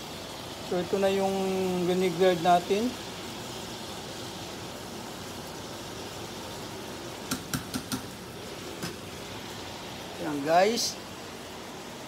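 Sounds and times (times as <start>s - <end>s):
steaks sizzling in a pan: 0.0s - 12.0s.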